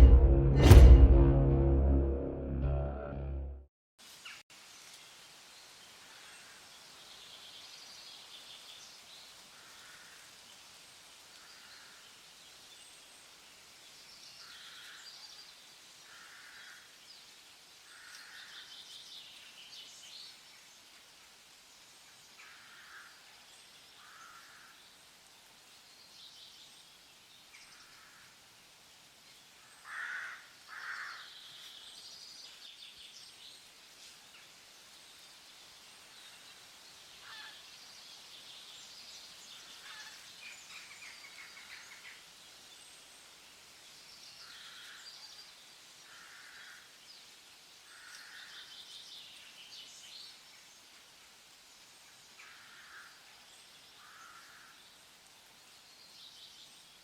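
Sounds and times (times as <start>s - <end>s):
faint outdoor hiss: 4.0s - 57.0s.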